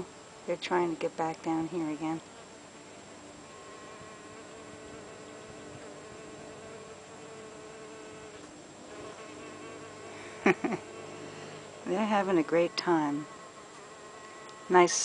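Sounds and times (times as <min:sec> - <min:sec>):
bees buzzing in flight: 0:02.0 - 0:15.0.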